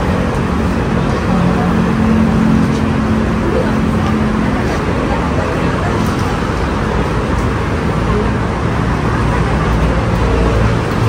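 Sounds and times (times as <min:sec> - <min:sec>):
busy road traffic rumble: 0:00.0 - 0:11.0.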